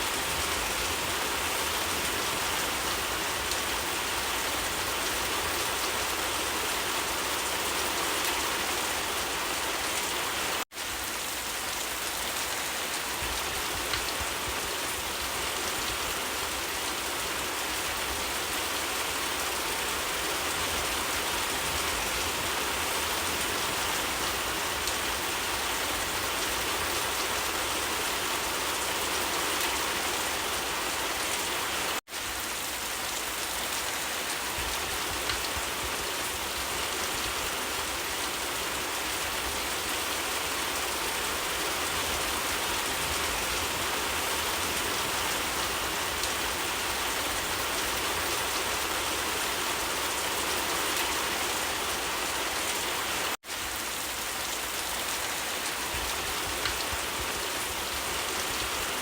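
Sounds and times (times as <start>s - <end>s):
rain falling on surfaces: 0.0s - 59.0s.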